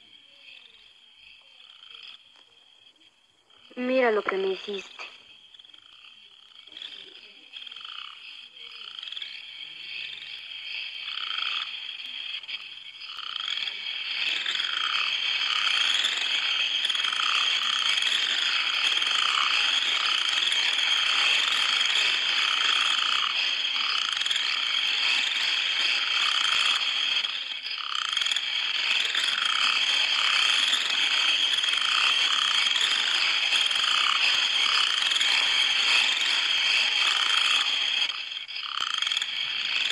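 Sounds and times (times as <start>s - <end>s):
frogs croaking: 0.0s - 39.9s
high insect trill: 0.0s - 39.9s.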